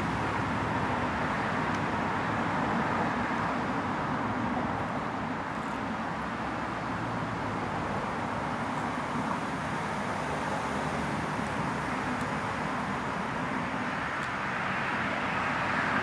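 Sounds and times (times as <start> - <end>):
distant traffic rumble and hiss: 0.0 - 16.0.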